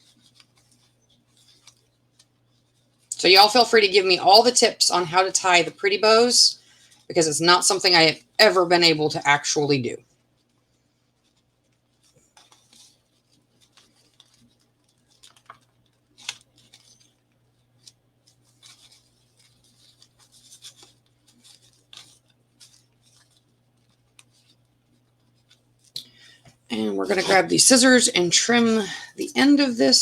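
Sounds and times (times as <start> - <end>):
ribbon and paper rustling: 0.0 - 8.9, 10.0 - 29.8.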